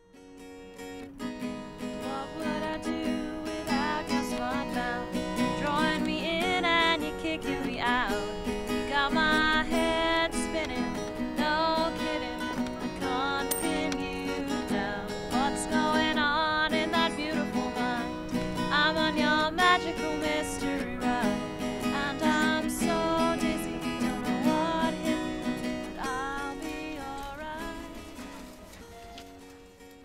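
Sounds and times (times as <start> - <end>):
acoustic guitar strummed and picked: 0.0 - 30.0.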